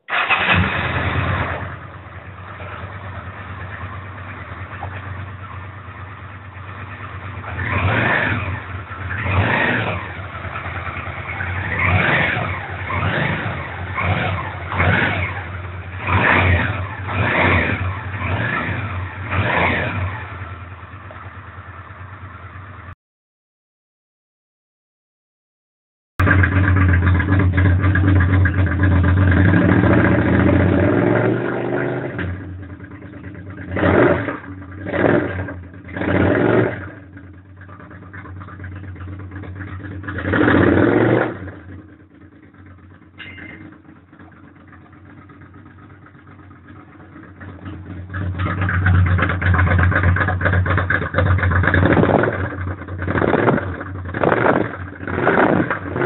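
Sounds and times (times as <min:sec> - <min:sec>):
motorcycle engine revving: 0:00.0 - 0:22.9, 0:26.2 - 0:56.0.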